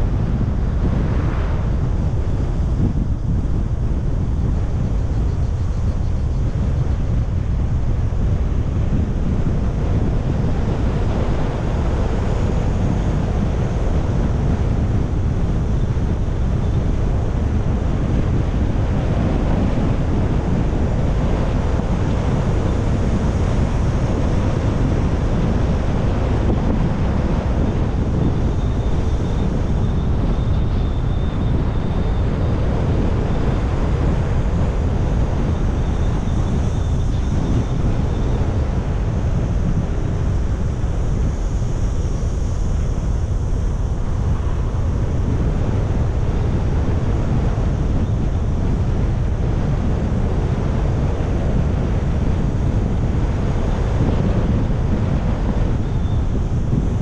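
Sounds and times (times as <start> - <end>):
car road and wind noise: 0.0 - 57.0.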